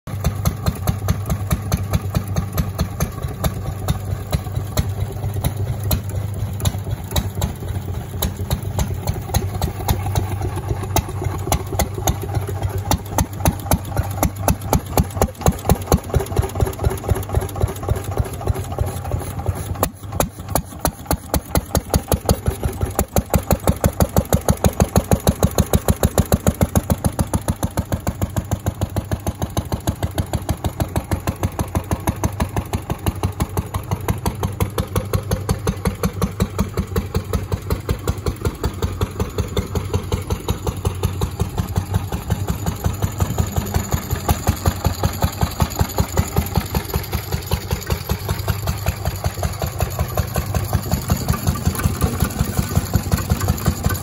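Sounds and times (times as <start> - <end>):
stationary engine exhaust beat: 0.1 - 54.0.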